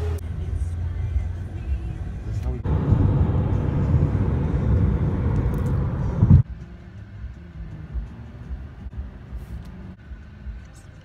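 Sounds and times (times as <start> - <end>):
low hum inside car cabin: 0.0 - 11.0
road noise rush: 0.0 - 11.0.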